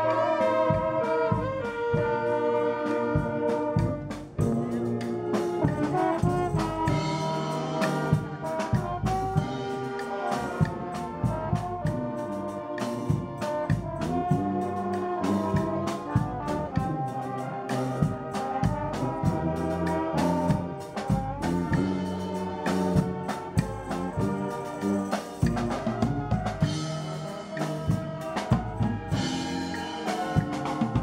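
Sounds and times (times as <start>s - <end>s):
brass band playing: 0.0s - 31.0s
steady drum beat: 0.0s - 31.0s.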